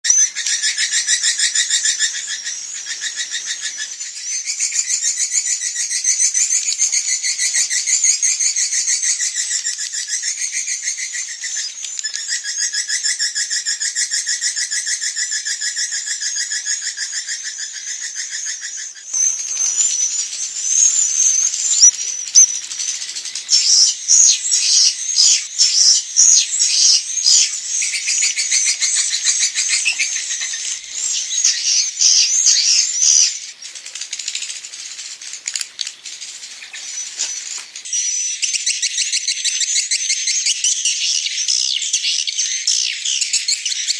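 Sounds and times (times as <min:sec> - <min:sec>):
swiftlet twittering calls: 0:00.1 - 0:43.9.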